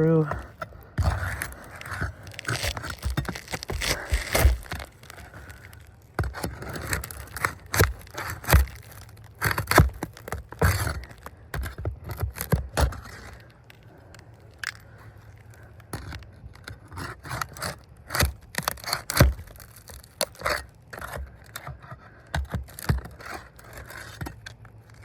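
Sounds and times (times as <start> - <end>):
flat bar scraping under shingles: 0.0 - 25.0.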